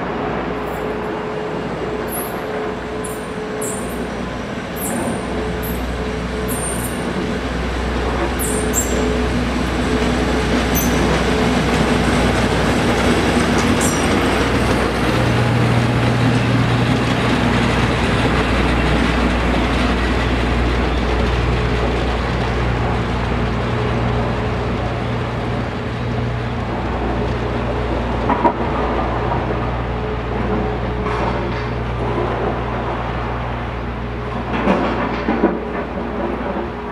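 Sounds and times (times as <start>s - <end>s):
locomotive engine drone: 0.0s - 36.9s
train wheels on track: 0.0s - 36.9s.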